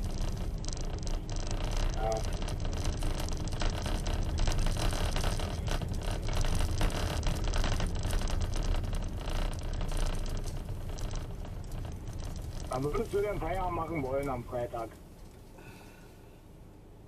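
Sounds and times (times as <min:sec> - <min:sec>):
small rattles and knocks: 0:00.0 - 0:15.7
car road and engine rumble: 0:00.0 - 0:17.0.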